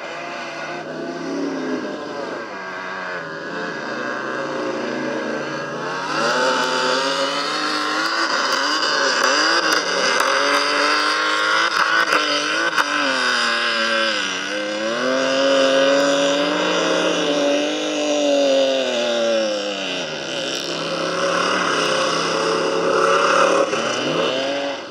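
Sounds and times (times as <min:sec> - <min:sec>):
race car engines at full throttle: 0:00.0 - 0:24.9.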